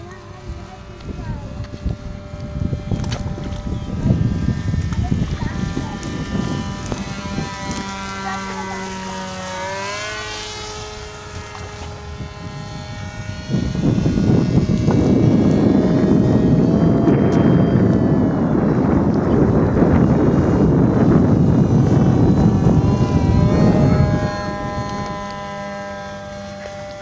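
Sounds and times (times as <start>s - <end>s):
model plane motor whining: 0.0s - 27.0s.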